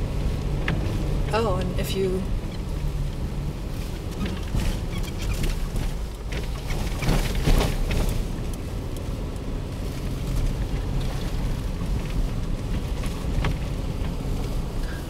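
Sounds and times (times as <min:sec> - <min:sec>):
engine and tyres rumbling: 0:00.0 - 0:15.0
snow crunching under vehicle: 0:00.0 - 0:15.0.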